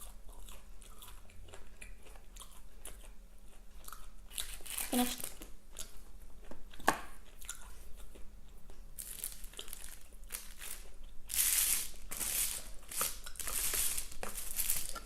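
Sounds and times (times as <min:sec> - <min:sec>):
chewing and crunching food: 0:00.0 - 0:15.0.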